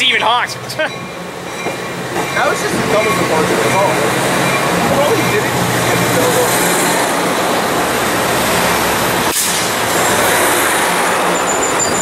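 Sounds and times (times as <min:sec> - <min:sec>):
train rolling on rails: 0:00.0 - 0:12.0.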